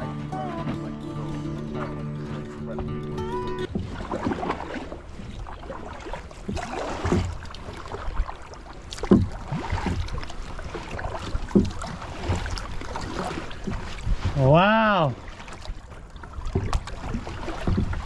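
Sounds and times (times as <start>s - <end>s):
paddle knocks: 0.0s - 14.5s, 15.2s - 18.0s
paddle splashing in river water: 0.0s - 18.0s.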